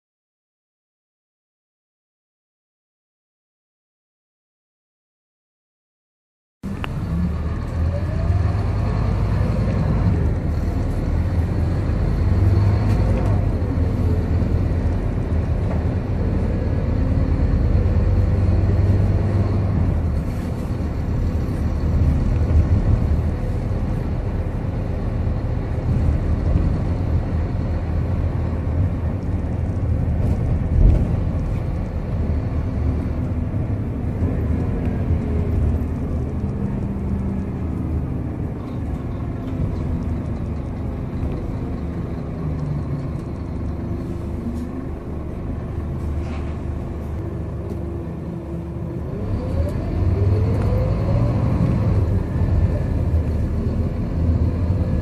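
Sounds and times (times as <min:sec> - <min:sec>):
bus engine hum: 0:06.6 - 0:55.0
low road rumble: 0:06.6 - 0:55.0.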